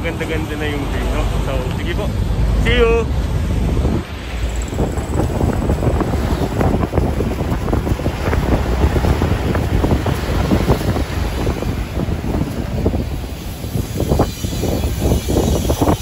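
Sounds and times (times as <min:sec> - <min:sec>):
truck engine and tyres rumbling: 0:00.0 - 0:16.0
wind buffeting microphone: 0:00.0 - 0:16.0.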